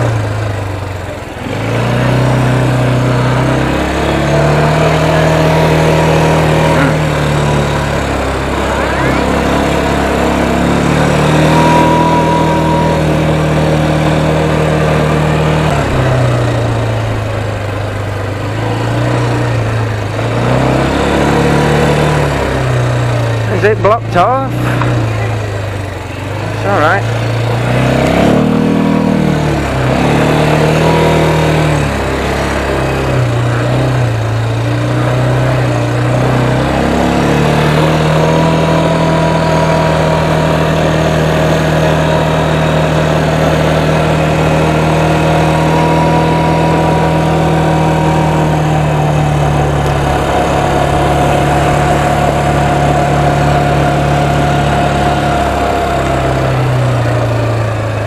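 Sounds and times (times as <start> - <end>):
small motorbike engine revving: 0.0 - 58.0.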